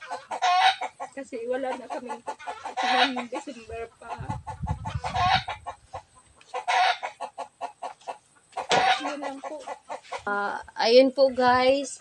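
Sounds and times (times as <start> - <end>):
harsh chicken calls: 0.0 - 10.3
chickens clucking: 0.0 - 10.6.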